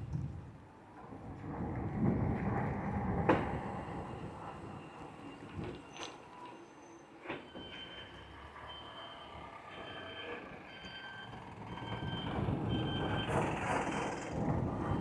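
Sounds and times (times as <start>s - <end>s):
road or wind noise: 0.0s - 5.9s, 7.6s - 15.0s.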